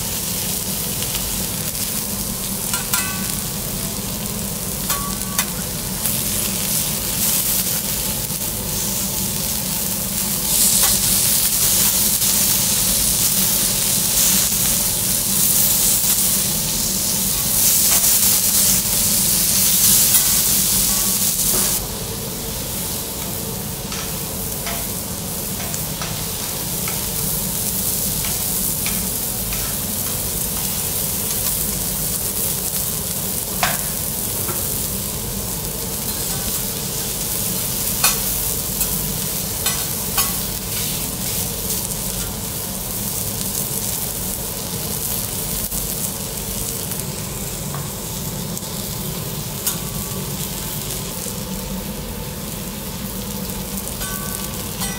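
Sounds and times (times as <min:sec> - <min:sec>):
seafood sizzling on griddle: 0:00.0 - 0:54.9.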